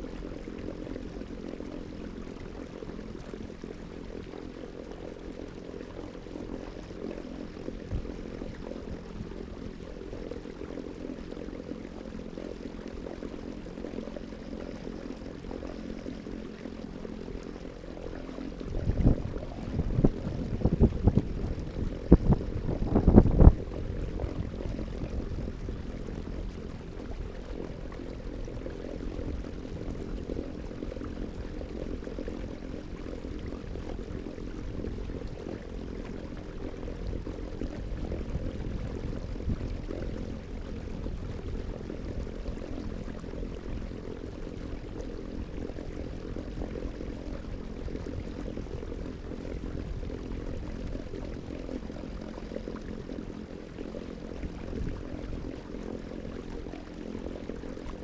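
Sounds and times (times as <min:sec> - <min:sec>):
low rumbling wind or water: 0:00.0 - 0:58.0
motor-like hum: 0:00.0 - 0:58.0.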